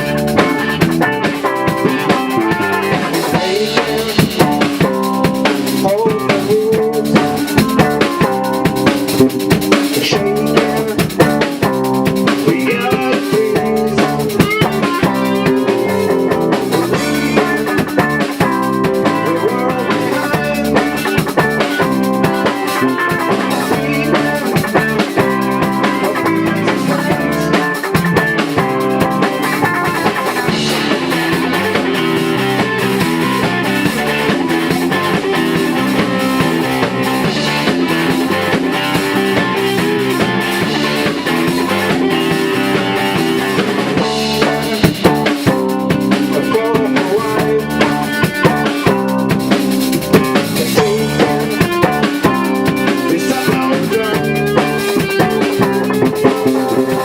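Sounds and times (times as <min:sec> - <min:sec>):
drum kit beat: 0:00.0 - 0:57.0
rock band playing: 0:00.0 - 0:57.0.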